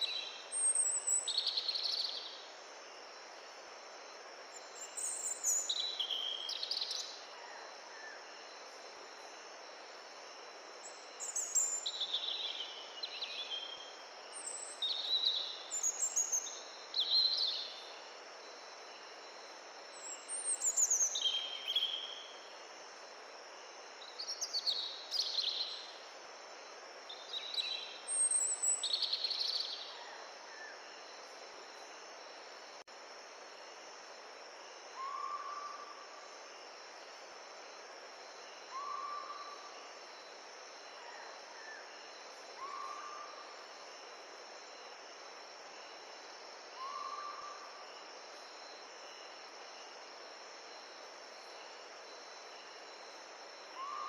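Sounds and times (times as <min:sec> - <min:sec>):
insect trill: 0:00.0 - 0:54.0.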